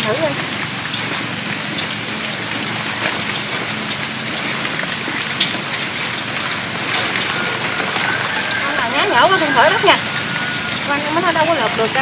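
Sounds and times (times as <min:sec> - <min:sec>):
drips ticking: 0:00.0 - 0:12.0
steady rain: 0:00.0 - 0:12.0.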